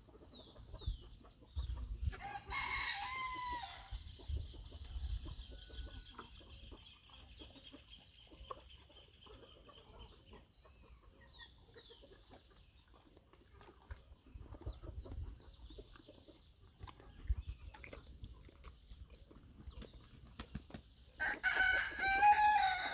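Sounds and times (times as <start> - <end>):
chickens clucking: 0.0 - 22.9
small birds chirping: 0.0 - 22.9.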